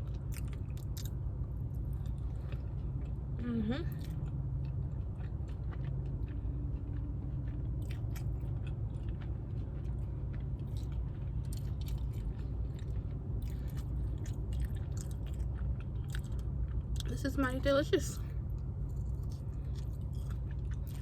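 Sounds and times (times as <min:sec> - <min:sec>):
crunchy chewing: 0:00.0 - 0:17.2, 0:18.2 - 0:21.0
steady low hum: 0:00.0 - 0:21.0.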